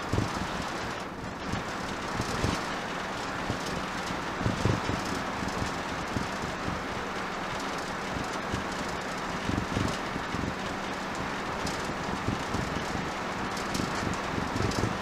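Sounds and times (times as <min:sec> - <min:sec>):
engine and tyre rumble: 0:00.0 - 0:15.0
low road bumps: 0:00.0 - 0:15.0.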